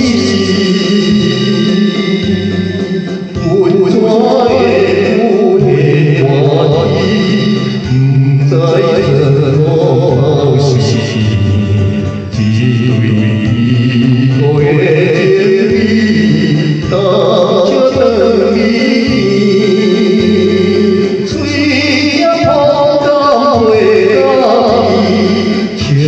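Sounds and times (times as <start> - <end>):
held bass notes: 0.0 - 26.0
song with wavering melody: 0.0 - 26.0.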